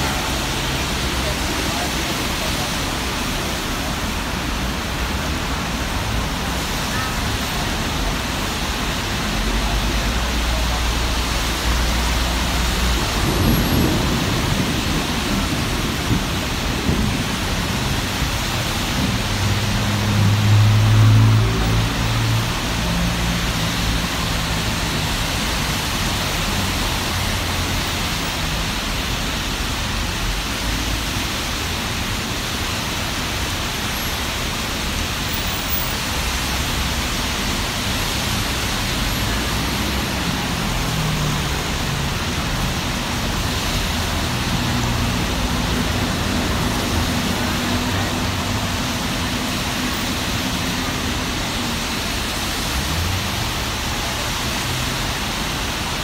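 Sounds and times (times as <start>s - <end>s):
car engines passing: 0.0s - 56.0s
car tyres on wet road: 0.0s - 56.0s
rain hissing: 0.0s - 56.0s.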